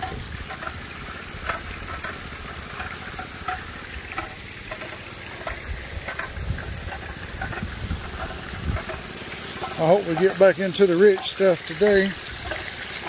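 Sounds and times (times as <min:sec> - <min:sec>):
rocks tumbling in a drum: 0:00.0 - 0:13.0
water jets hissing and splashing: 0:00.0 - 0:13.0.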